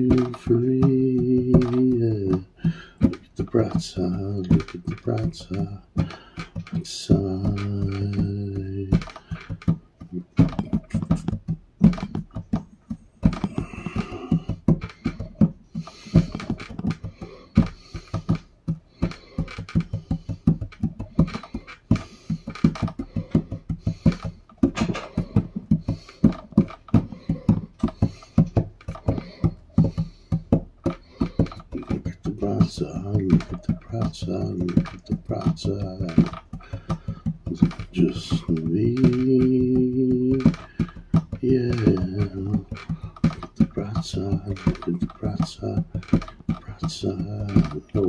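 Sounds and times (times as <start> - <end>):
hands drumming on a tabletop: 0.0 - 48.0.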